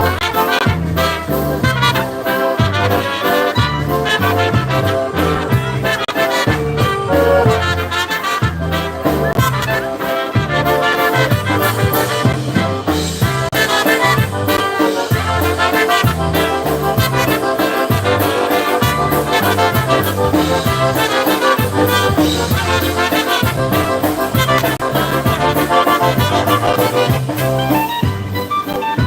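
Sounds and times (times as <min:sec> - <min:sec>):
polka band playing: 0:00.0 - 0:29.0.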